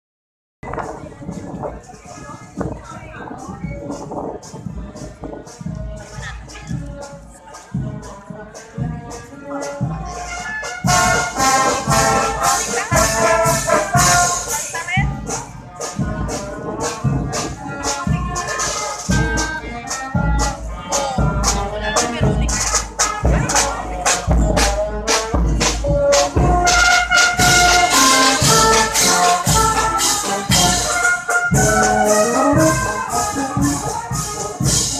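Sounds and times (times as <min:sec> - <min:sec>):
bass drum beat: 0:02.6 - 0:34.9
marching brass band playing: 0:03.6 - 0:34.9.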